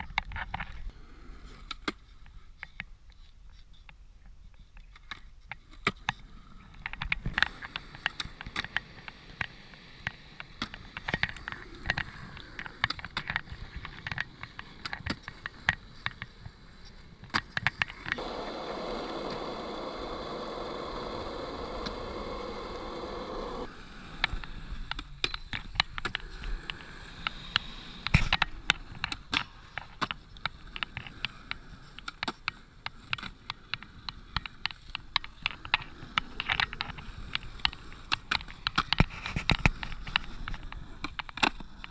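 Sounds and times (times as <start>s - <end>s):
skateboard wheels rolling on concrete: 0.0s - 41.9s
skateboard clacking on ground: 4.7s - 41.9s.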